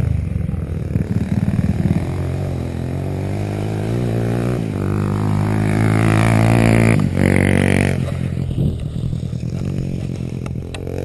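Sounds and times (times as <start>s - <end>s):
motorbike engine accelerating: 0.0s - 11.0s.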